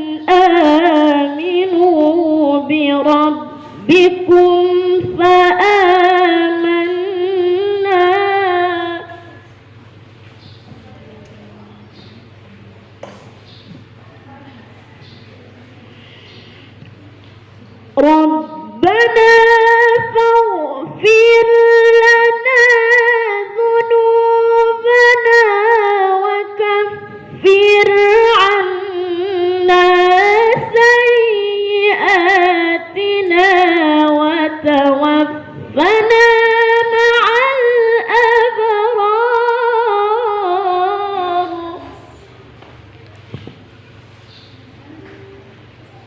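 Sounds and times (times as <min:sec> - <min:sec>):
person reciting melodically: 0:00.0 - 0:09.6, 0:13.6 - 0:43.6.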